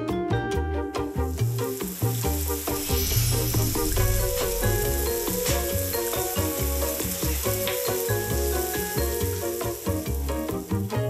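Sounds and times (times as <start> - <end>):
background music with bass beat: 0.9 - 11.0
shower head spraying water: 1.2 - 10.6.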